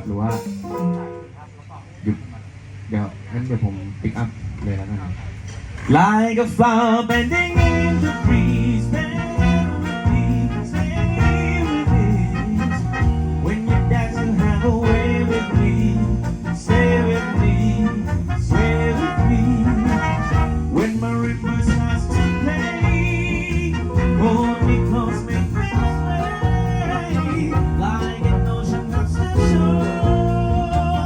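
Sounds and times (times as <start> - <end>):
live band playing swing: 0.0 - 1.3, 7.1 - 31.0.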